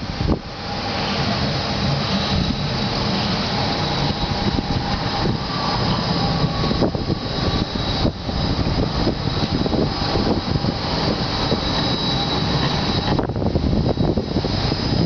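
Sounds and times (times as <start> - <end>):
electric tram rumbling: 0.0 - 15.0
high whine: 0.0 - 15.0.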